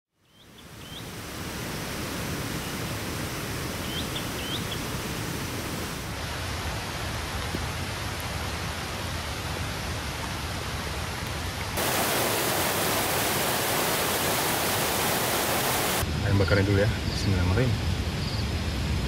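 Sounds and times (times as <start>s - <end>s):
heavy rain hissing: 0.6s - 19.0s.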